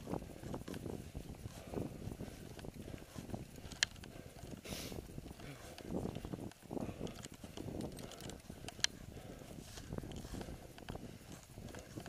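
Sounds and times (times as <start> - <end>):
bike rattling over bumps: 0.0 - 12.0
bike tyres rumbling on dirt: 0.0 - 12.0.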